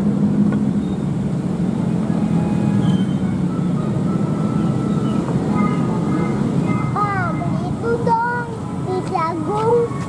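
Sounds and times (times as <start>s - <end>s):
distant jet engines rumbling: 0.0s - 10.0s.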